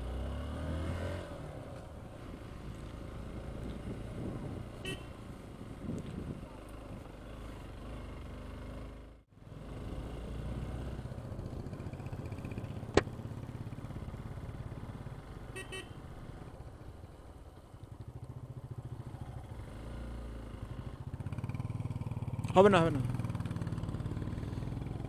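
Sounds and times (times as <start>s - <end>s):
motorcycle engine running: 2.4s - 25.0s.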